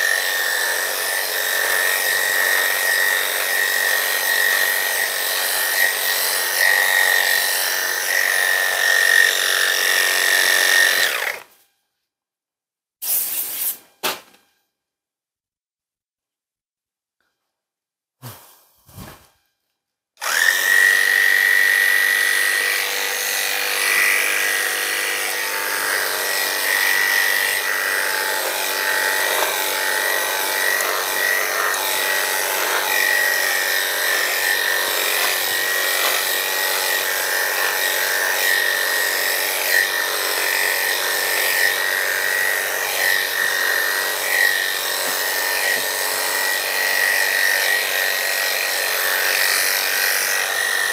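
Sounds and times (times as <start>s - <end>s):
electric clippers whining: 0.0s - 11.6s, 20.2s - 50.9s.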